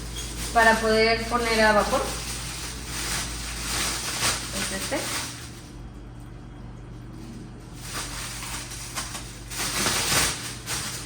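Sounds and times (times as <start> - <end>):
packaging rustling: 0.0 - 5.8, 7.8 - 11.0
low steady hum: 0.0 - 11.0.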